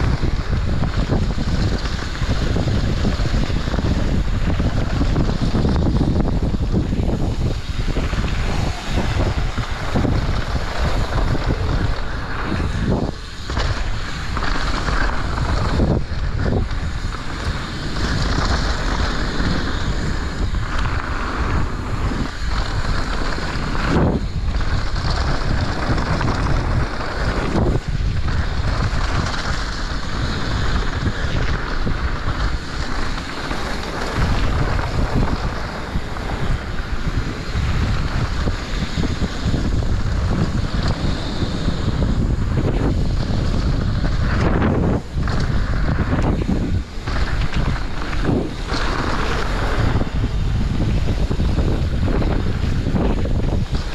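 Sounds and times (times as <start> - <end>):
tyres rolling on dirt: 0.0 - 53.9
wind buffeting microphone: 0.0 - 53.9.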